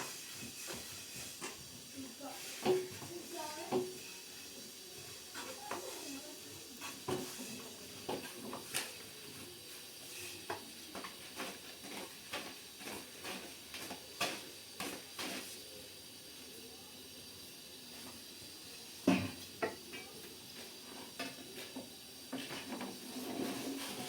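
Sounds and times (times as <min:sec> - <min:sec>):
cookware and utensils clinking: 0:00.0 - 0:16.2, 0:17.9 - 0:24.0
steady hiss: 0:00.0 - 0:24.0.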